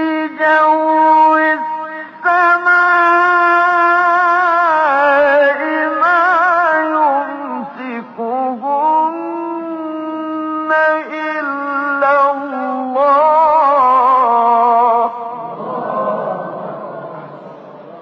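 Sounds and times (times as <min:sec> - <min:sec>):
person singing wordless melody: 0:00.0 - 0:16.4.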